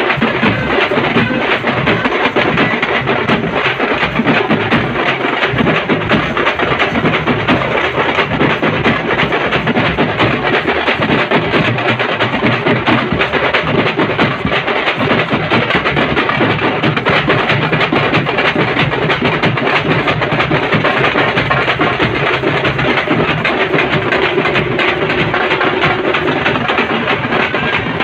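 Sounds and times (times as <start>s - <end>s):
frame drums played with sticks: 0.0s - 28.0s.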